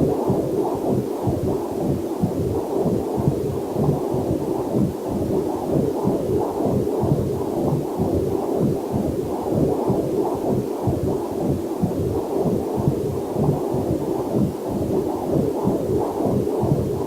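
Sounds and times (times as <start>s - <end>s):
heartbeat on doppler monitor: 0.0s - 17.0s.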